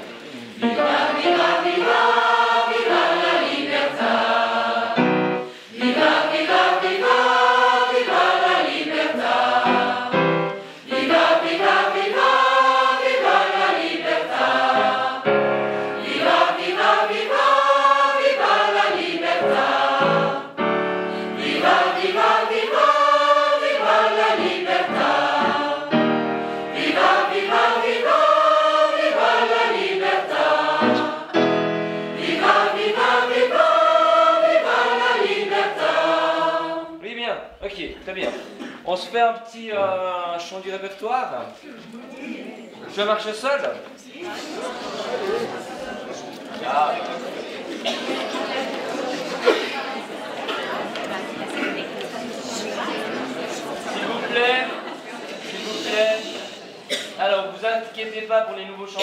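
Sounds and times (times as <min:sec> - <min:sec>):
mixed choir singing: 0:00.0 - 0:37.0, 0:44.2 - 0:57.1.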